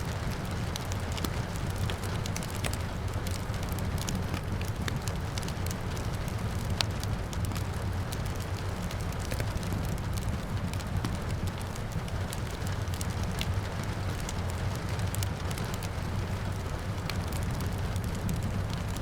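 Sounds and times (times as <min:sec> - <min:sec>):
rain falling: 0:00.0 - 0:19.0
wood fire crackling and popping: 0:00.0 - 0:19.0.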